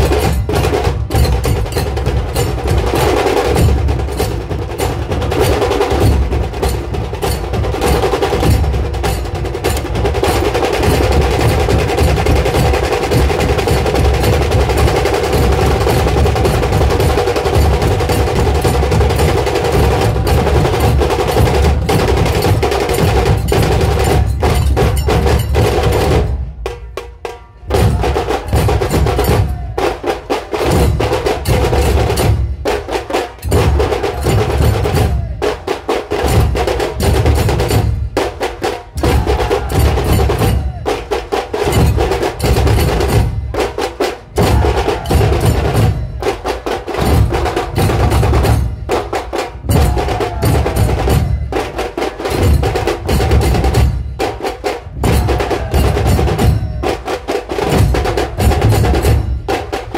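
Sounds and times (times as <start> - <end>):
drums beaten in fast rhythm: 0.0 - 59.9.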